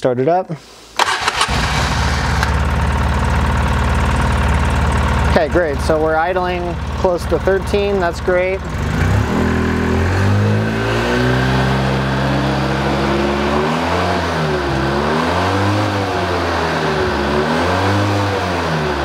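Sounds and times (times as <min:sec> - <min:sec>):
engine revving: 0:01.0 - 0:19.0.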